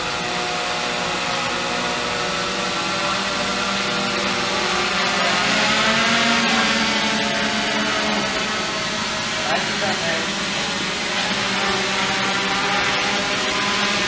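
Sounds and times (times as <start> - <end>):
quadcopter propellers whirring: 0.0 - 14.0.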